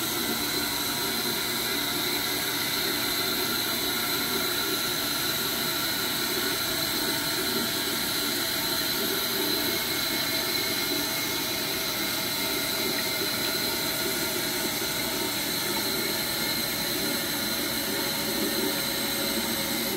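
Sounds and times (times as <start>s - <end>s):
toilet tank refilling: 0.0s - 19.9s.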